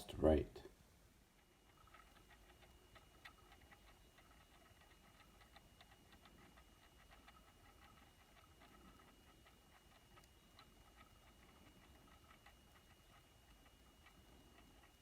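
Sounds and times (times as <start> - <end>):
faint high hum: 0.0 - 15.0
faint rapid ticking: 1.3 - 15.0.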